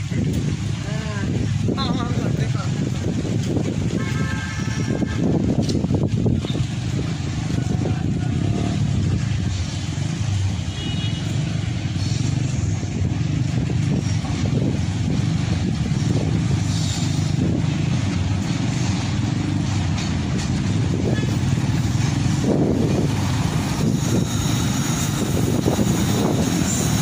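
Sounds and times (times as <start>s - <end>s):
diesel locomotive engine rumbling: 0.0s - 27.0s.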